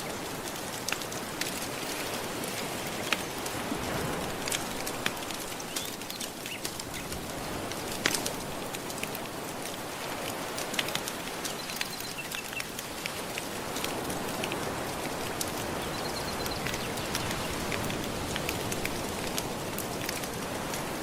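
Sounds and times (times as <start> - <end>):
gentle ocean waves: 0.0 - 21.0
wood fire crackling: 0.0 - 21.0.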